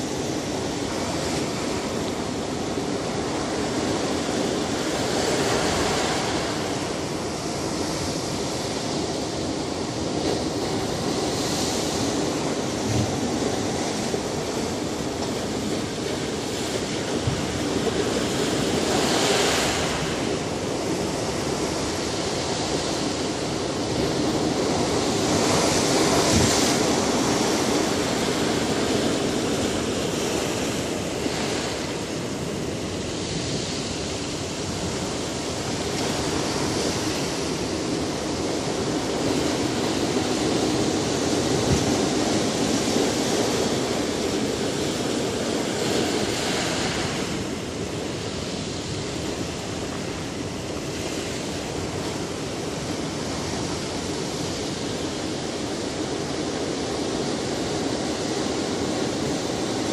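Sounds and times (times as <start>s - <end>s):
sea surf breaking over rocks: 0.0s - 59.9s.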